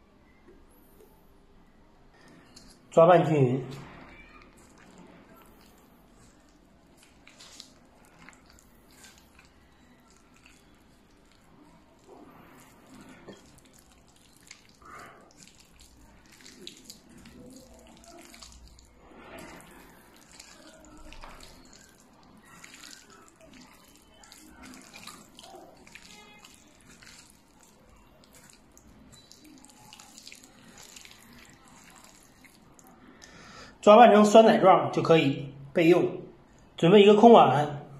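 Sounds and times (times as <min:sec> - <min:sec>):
hand squelching wet batter: 0:02.1 - 0:33.8.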